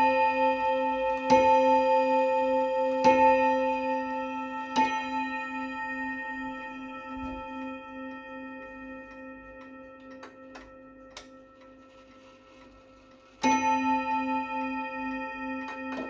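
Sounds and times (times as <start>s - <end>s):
brass clock bell ringing: 0.0s - 16.0s.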